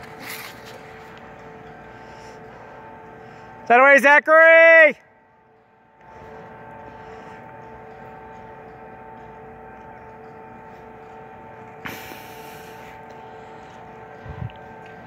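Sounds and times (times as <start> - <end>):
distant machinery hum: 0.0 - 15.0.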